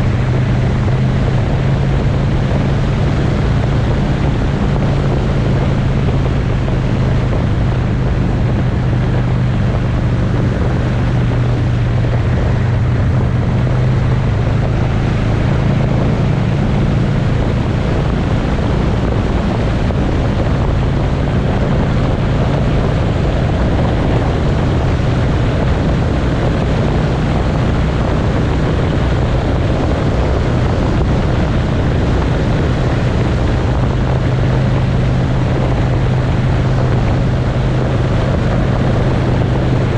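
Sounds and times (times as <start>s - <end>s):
motorcycle engine cruising: 0.0s - 39.9s
wind on microphone: 0.0s - 39.9s.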